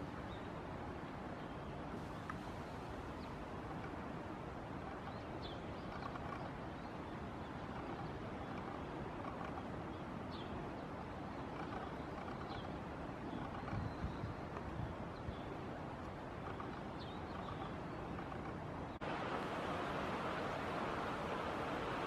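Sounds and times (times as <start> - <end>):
outdoor rumble and hiss: 0.0 - 22.0.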